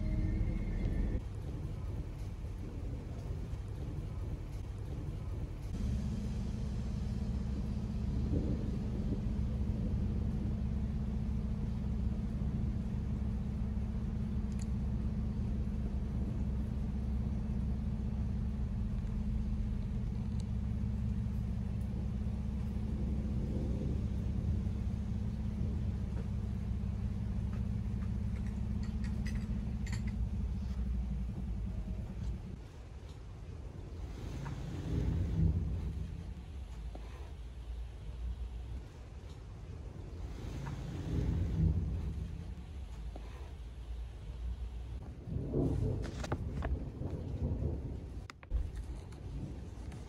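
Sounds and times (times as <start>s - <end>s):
thunderstorm rumble: 0.0s - 50.0s.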